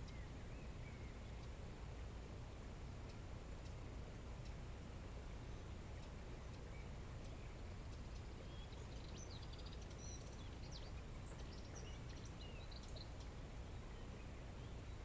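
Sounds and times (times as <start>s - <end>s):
low background rumble: 0.0s - 15.0s
small birds chirping and twittering: 0.0s - 15.0s.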